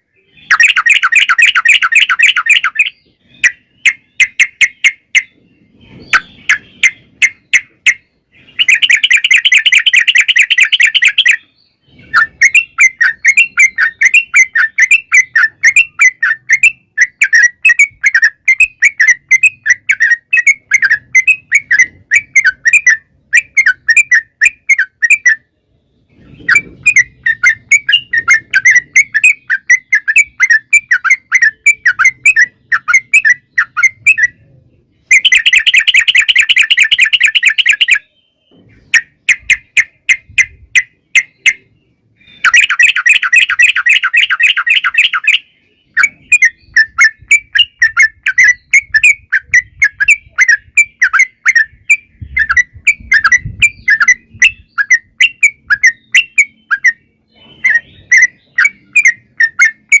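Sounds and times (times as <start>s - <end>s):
bird singing chattering notes: 0.0s - 60.0s.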